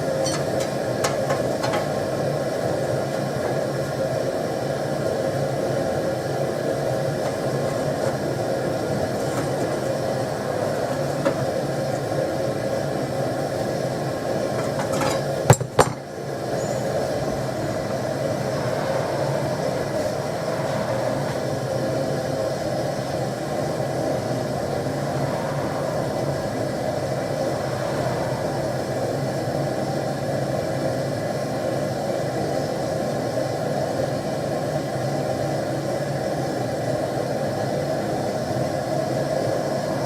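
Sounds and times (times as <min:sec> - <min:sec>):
gas forge burner roaring: 0:00.0 - 0:40.0.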